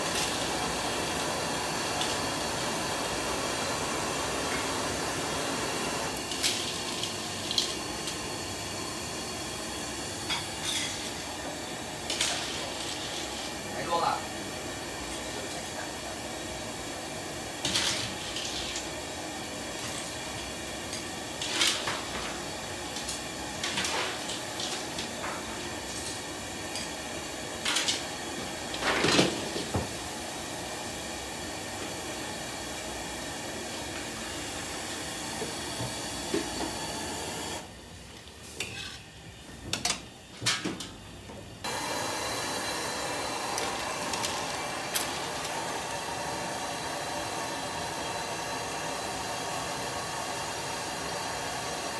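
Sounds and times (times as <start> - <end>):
hiss of steam and cooking: 0.0 - 39.5, 41.6 - 51.9.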